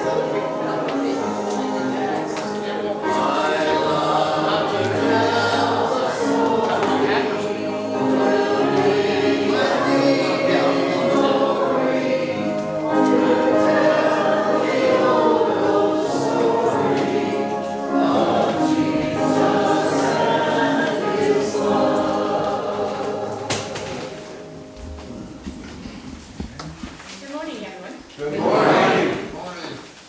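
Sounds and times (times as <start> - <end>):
choir singing a hymn: 0.0 - 26.6, 28.2 - 29.4.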